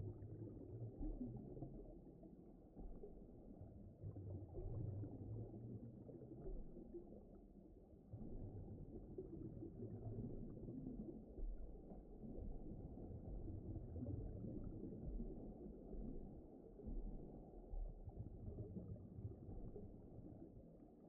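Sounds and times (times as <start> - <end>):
deep underwater rumble: 0.0 - 21.0.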